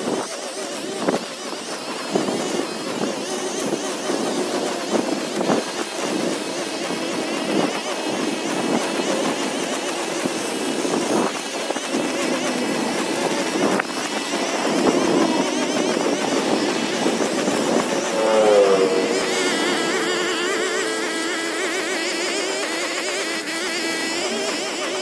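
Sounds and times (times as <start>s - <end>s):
small gasoline engine running: 0.0s - 18.1s, 19.3s - 25.0s.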